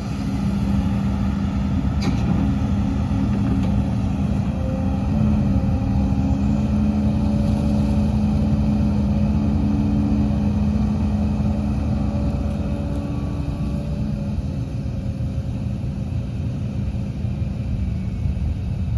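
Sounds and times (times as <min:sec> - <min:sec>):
heavy diesel engine rumbling: 0:00.0 - 0:18.9.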